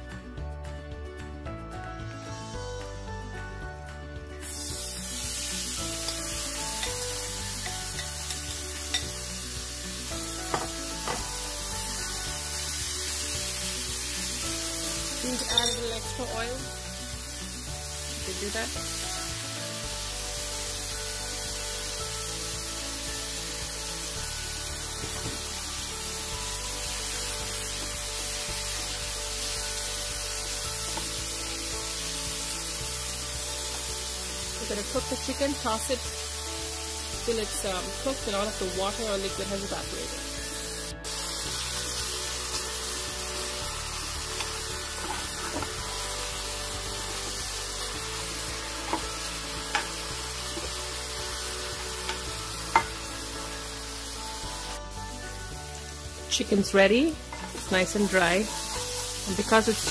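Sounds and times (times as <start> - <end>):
background music: 0.0 - 59.9
chicken sizzling in a skillet: 4.2 - 59.9.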